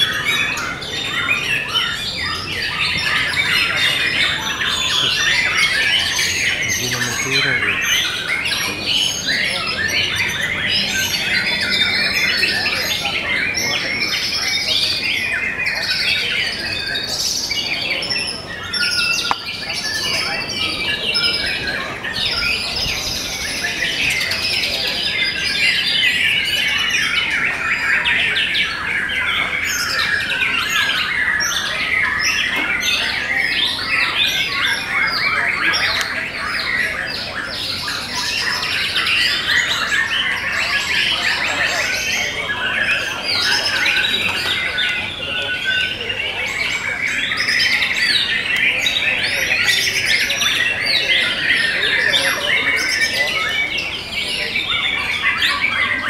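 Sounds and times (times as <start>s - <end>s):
birds singing: 0.0s - 56.0s.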